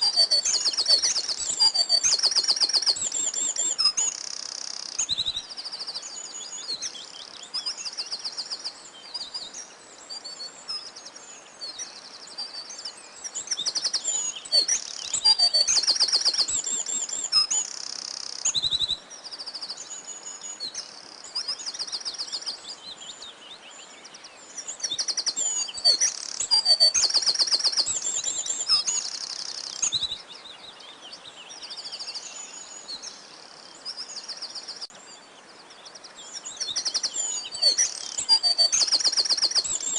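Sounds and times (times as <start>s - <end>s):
songbirds singing trills: 0.0s - 39.9s.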